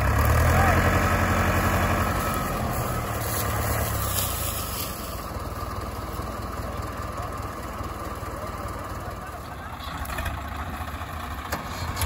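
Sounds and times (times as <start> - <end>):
diesel tractor engines idling: 0.0 - 12.0.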